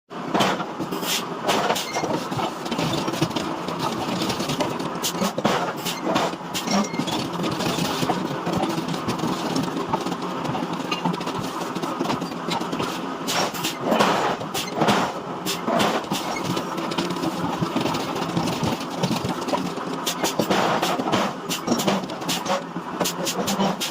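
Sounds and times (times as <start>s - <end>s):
heavy forging machinery running: 0.3s - 23.9s
metal clanks and knocks: 1.5s - 23.9s.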